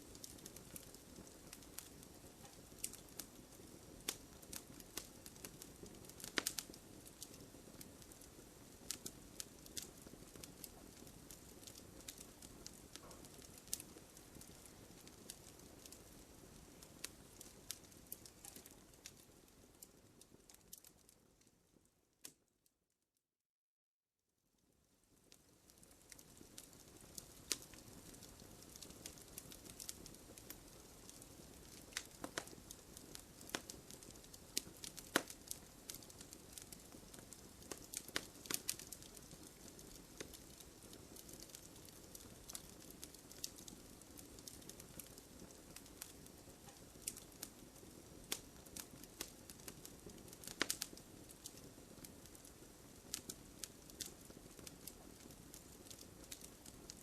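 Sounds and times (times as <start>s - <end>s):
hiss of flames: 0.0s - 19.0s, 26.1s - 56.9s
burning wood crackling and popping: 0.0s - 22.5s, 25.1s - 57.0s.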